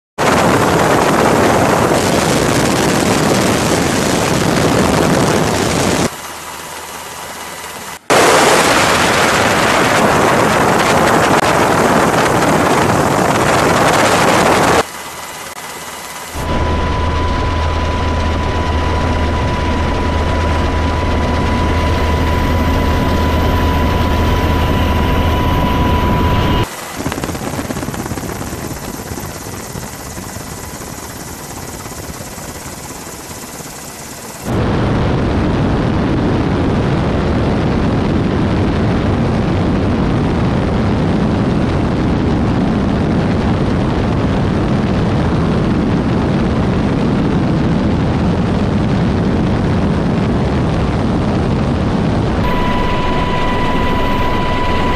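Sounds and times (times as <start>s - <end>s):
steady high whine: 0.2s - 45.0s, 49.4s - 54.9s
aircraft engine and rushing noise: 0.2s - 54.9s.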